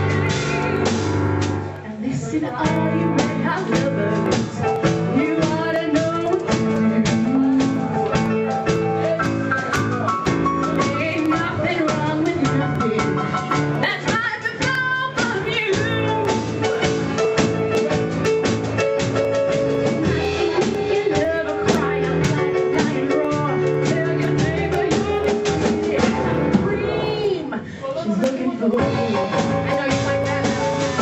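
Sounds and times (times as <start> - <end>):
person singing: 0.0 - 18.4, 19.2 - 31.0
band playing blues rock: 0.0 - 31.0.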